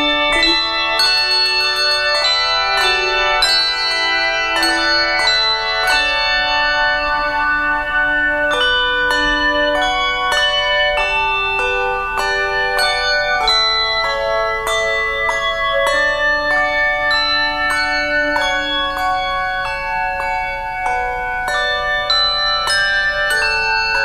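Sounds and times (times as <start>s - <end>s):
handbell choir playing: 0.0s - 24.0s.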